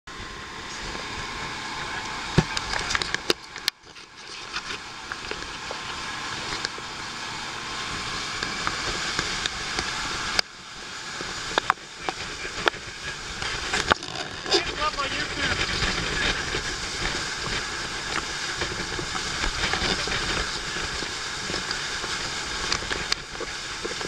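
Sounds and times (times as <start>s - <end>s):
wind and spray rushing: 4.5s - 24.0s.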